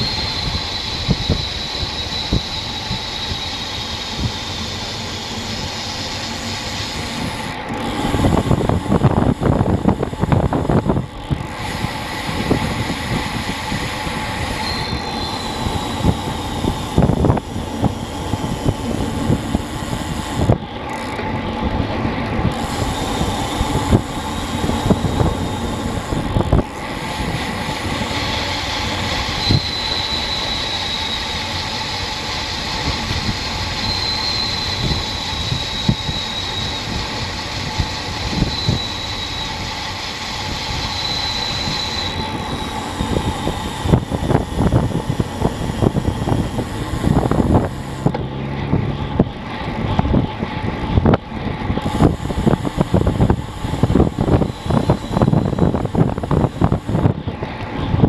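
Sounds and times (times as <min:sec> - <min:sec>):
high wavering whine: 0:00.0 - 0:58.0
wind buffeting microphone: 0:00.0 - 0:58.0.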